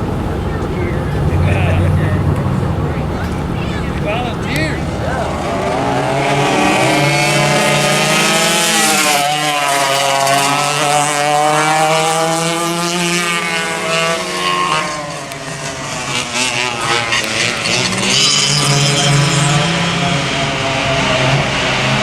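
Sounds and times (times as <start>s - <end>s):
kart engines revving: 0.0s - 22.0s.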